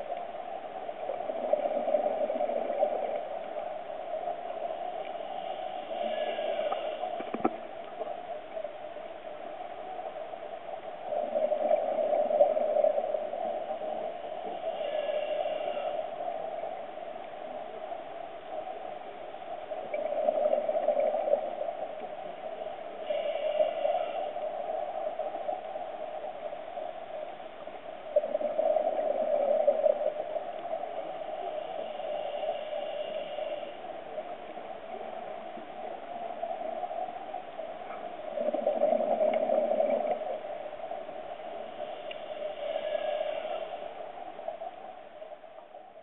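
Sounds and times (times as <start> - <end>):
steady underwater rushing: 0.0 - 46.0.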